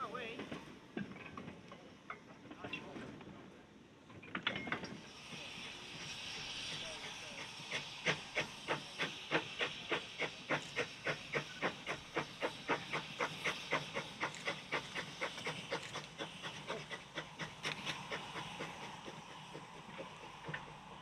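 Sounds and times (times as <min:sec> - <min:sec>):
steady steam hiss: 0:00.0 - 0:21.0
steam locomotive chuffing: 0:04.0 - 0:21.0.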